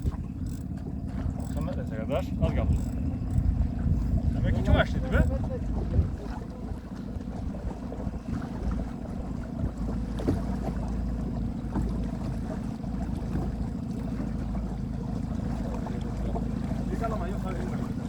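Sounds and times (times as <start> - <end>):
boat engine running: 0.0 - 18.0
wind buffeting microphone: 0.0 - 18.0.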